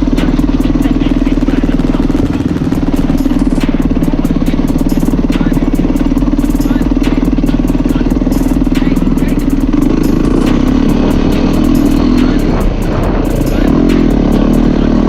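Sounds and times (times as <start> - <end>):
dirt bike engine running: 0.0 - 15.0
sharp ticks: 0.0 - 15.0.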